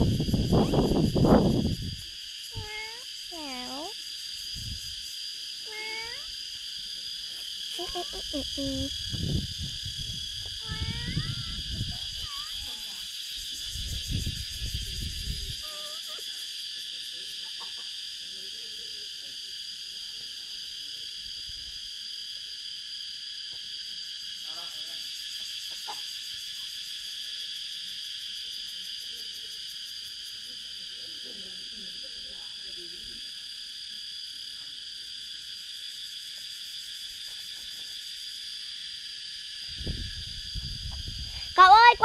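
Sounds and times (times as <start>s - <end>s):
insect chorus chirring: 0.0s - 42.0s.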